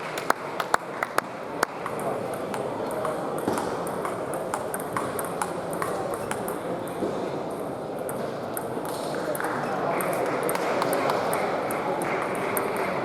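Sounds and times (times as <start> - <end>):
background murmur: 0.0 - 13.0.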